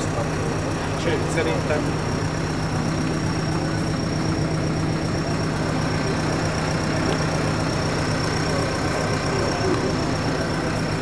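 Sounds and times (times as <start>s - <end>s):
high steady whine: 0.0s - 11.0s
tractor diesel engine idling: 0.0s - 11.0s.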